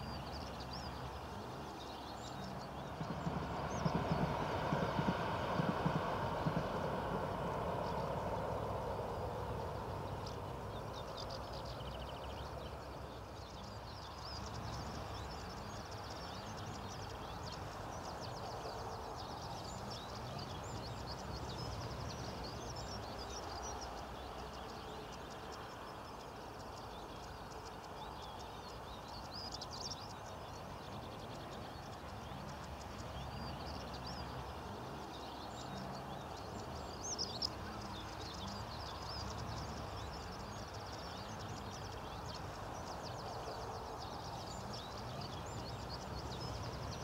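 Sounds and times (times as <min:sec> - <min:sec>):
low background noise: 0:00.0 - 0:47.0.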